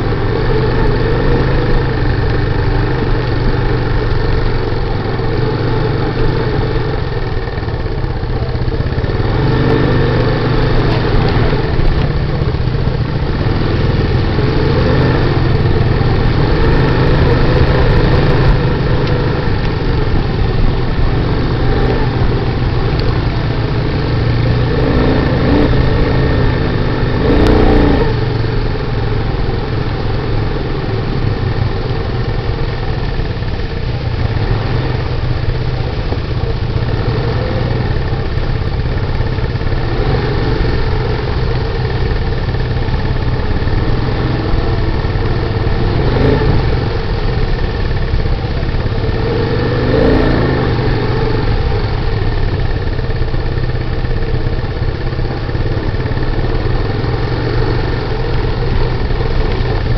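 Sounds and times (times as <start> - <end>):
atv engines chugging: 0.0 - 59.9.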